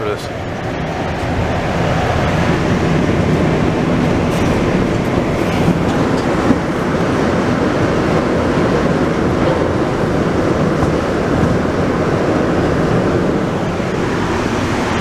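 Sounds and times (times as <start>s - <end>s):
subway train rumble and hiss: 0.0s - 15.0s.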